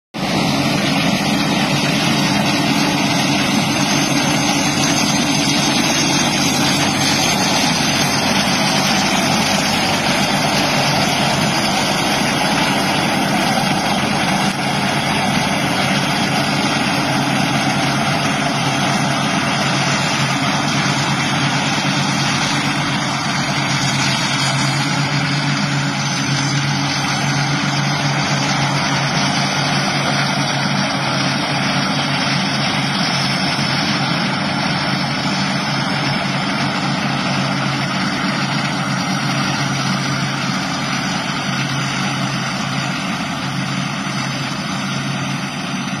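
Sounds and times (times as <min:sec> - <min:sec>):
diesel engine drone: 0:00.2 - 0:46.0.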